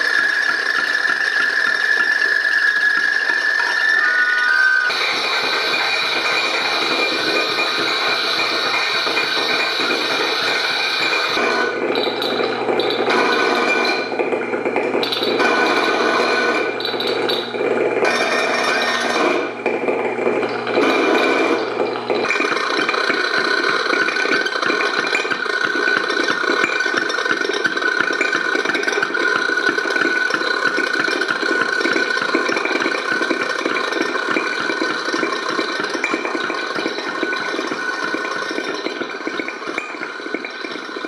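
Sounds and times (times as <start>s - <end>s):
feedback buzzing and rattling: 0.0s - 41.0s
steady ringing tones: 0.0s - 41.0s.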